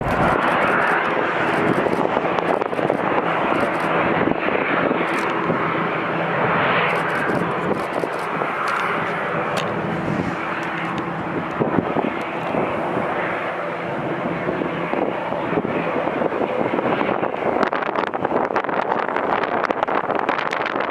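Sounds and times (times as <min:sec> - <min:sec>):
jet engines at takeoff power: 0:00.0 - 0:20.9.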